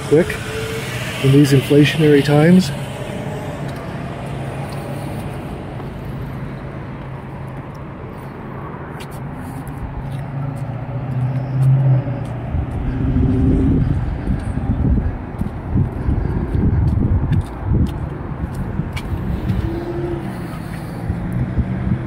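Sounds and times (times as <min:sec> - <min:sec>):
road traffic with engine hum: 0:00.0 - 0:22.0.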